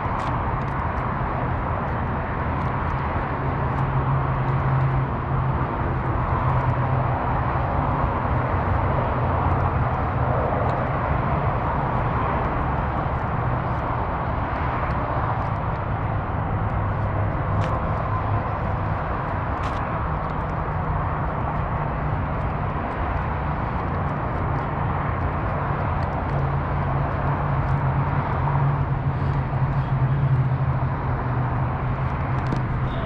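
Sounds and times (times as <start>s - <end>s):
heavy freeway traffic rushing: 0.0s - 33.0s.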